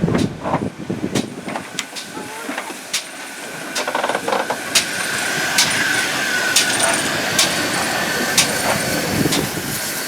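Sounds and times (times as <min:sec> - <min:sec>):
locomotive steam hissing: 0:00.9 - 0:10.0.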